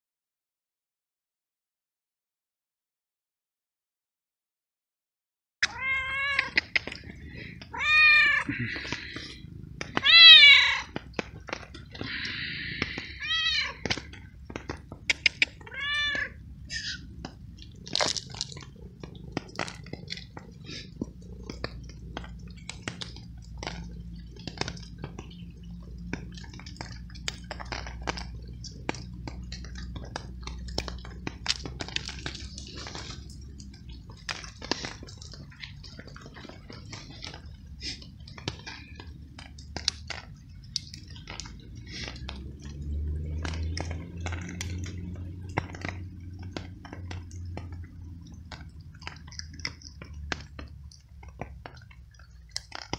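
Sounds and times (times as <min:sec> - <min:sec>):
cat crunching dry treats: 0:05.6 - 0:52.9
rain dripping: 0:05.6 - 0:52.9.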